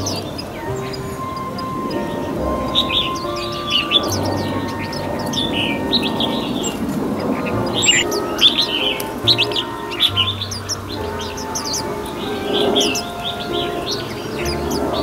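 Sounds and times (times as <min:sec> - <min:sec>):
background music: 0:00.0 - 0:15.0
birds chirping: 0:00.0 - 0:15.0.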